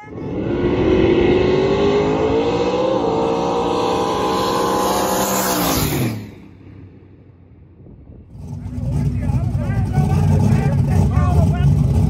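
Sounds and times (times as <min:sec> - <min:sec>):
drag cars at full throttle: 0:00.0 - 0:12.0.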